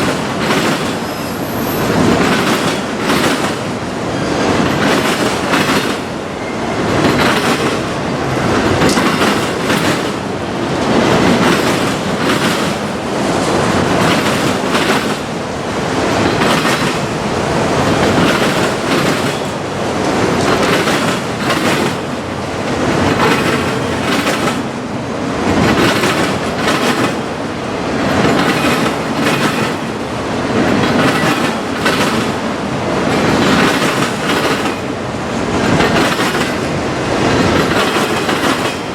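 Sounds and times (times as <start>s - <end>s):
train wheels clickety-clack: 0.0s - 38.9s.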